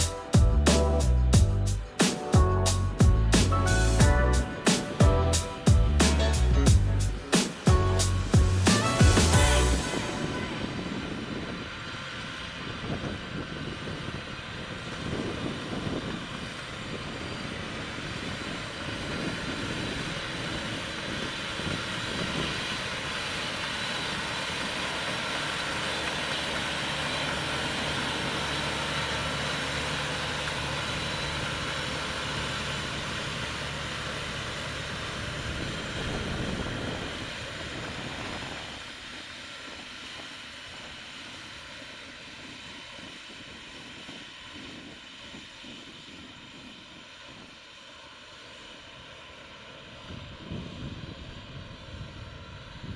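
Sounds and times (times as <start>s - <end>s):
tractor engine droning: 0.0s - 52.9s.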